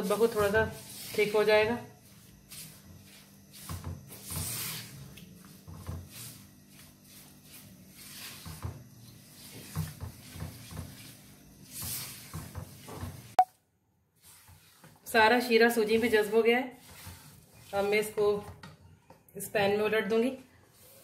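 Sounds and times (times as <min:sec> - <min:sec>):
spatula scraping wet mixture in wok: 0:00.0 - 0:13.4, 0:14.1 - 0:18.7, 0:20.5 - 0:21.0.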